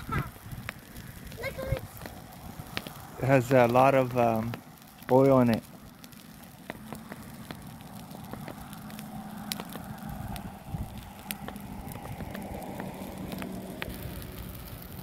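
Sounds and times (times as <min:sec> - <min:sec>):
fire crackling and popping: 0:00.0 - 0:15.0
rush of flame: 0:00.0 - 0:15.0.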